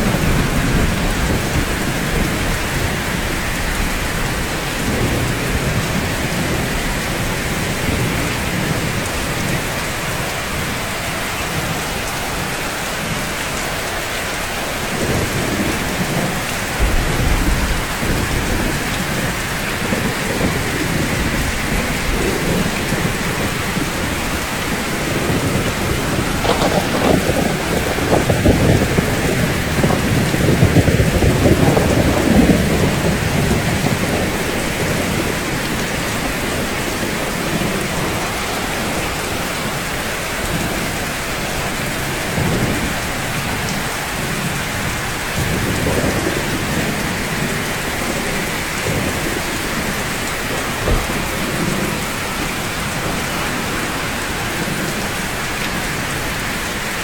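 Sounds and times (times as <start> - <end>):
rolling thunder: 0.0 - 13.3, 14.2 - 56.8
rain on a roof: 0.0 - 57.0.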